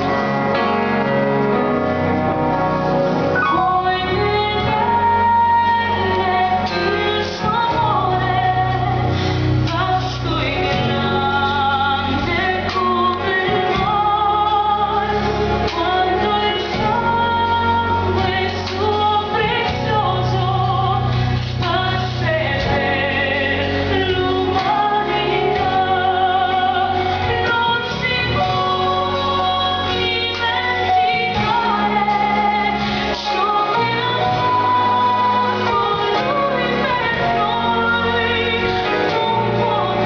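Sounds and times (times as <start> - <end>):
drum kit: 0.0 - 40.0
choir singing worship song: 3.4 - 40.0.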